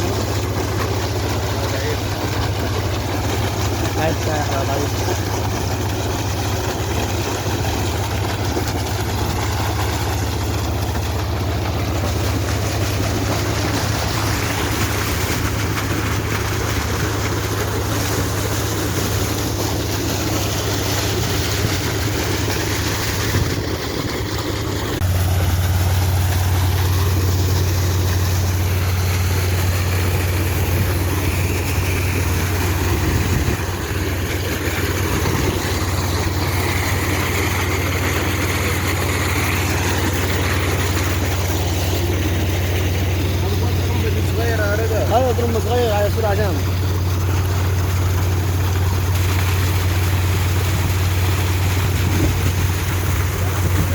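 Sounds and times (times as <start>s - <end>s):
diesel engine running: 0.0s - 53.9s
water pump rushing noise: 0.0s - 53.9s.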